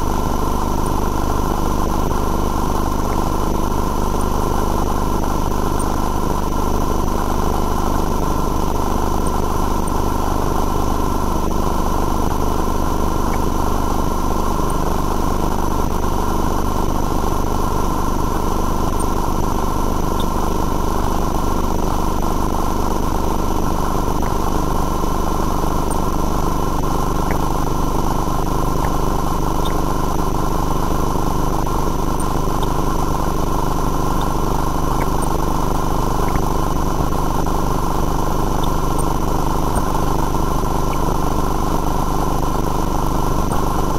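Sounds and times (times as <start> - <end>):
engine idling drone: 0.0 - 43.9.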